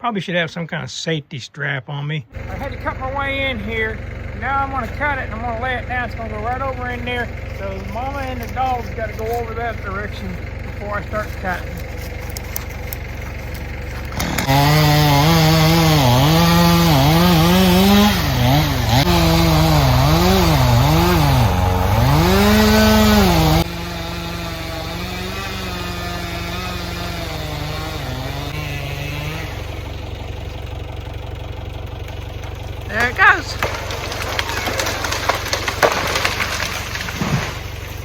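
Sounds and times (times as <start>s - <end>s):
chainsaw cutting into tree: 2.4s - 38.0s.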